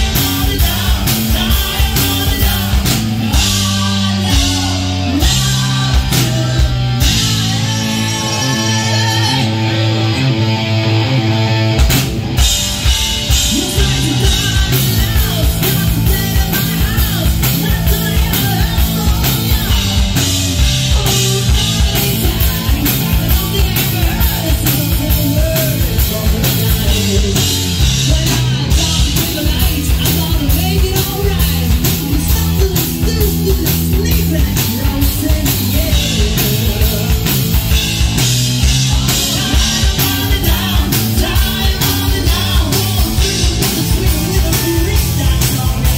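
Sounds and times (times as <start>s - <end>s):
drum kit beat: 0.0s - 9.2s, 11.7s - 45.9s
man singing: 0.0s - 10.4s, 13.3s - 45.9s
electric guitar and bass: 0.0s - 45.9s.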